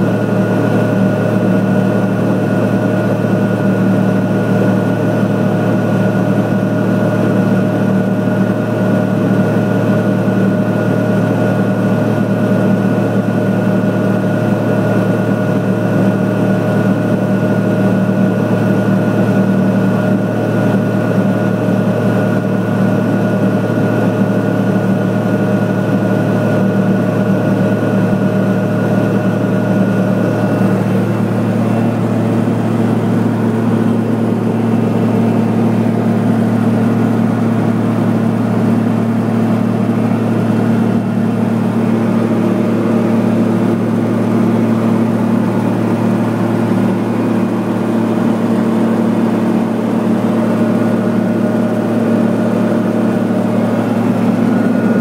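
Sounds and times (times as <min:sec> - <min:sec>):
turboprop engine hum in cockpit: 0:00.0 - 0:55.0.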